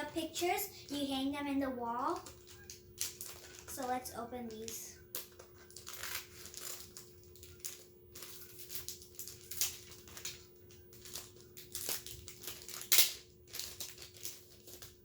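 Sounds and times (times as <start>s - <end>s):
packaging crinkling and rustling: 2.0s - 15.0s.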